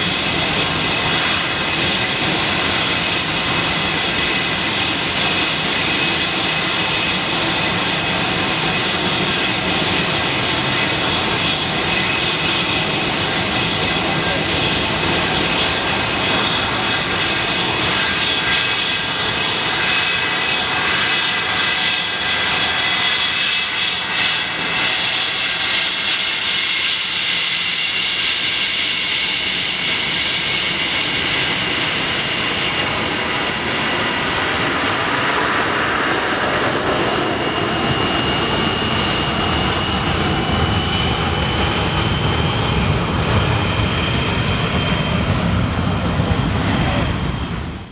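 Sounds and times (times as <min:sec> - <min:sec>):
jet engines with high whine: 0:00.0 - 0:47.9.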